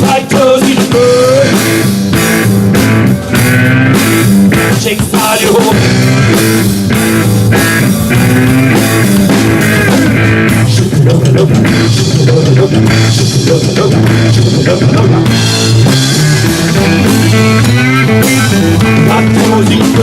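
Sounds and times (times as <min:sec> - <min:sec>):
drum kit: 0:00.0 - 0:20.0
guitar: 0:00.0 - 0:20.0.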